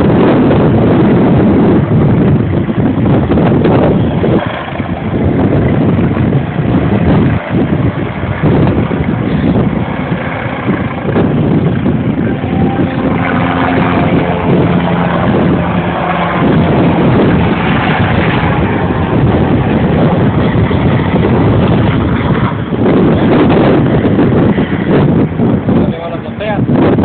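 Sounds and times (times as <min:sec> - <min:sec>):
helicopter flying overhead: 0:00.0 - 0:27.0
wind buffeting microphone: 0:00.0 - 0:27.0.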